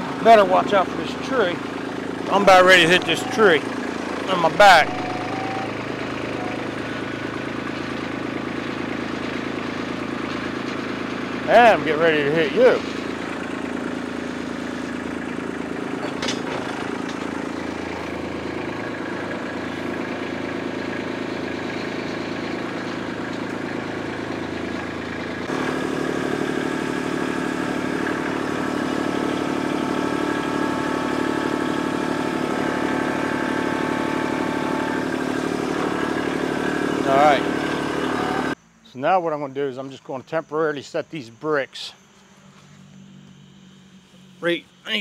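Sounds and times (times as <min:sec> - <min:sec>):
tractor diesel engine running: 0:00.0 - 0:38.8, 0:41.2 - 0:45.0.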